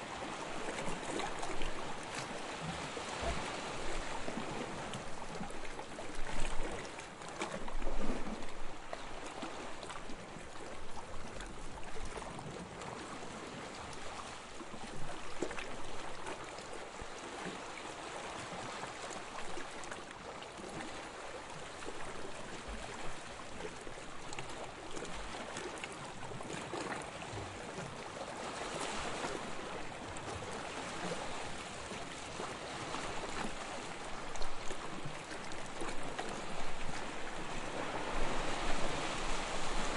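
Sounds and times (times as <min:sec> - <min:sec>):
small waves lapping on sand: 0:00.0 - 0:39.9.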